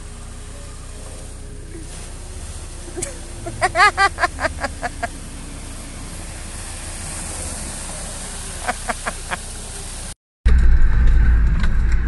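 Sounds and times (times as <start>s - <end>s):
loud engine running: 0.0s - 10.2s
vehicle driving through puddles: 0.0s - 10.2s.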